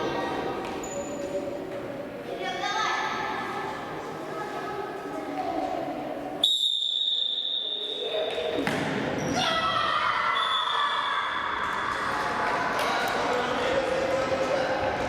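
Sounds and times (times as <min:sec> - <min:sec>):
echoing hall noise: 0:00.0 - 0:15.0.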